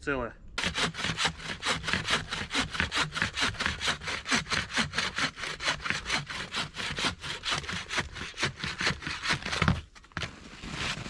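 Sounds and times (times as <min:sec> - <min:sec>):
bow saw cutting wood: 0:00.6 - 0:11.0.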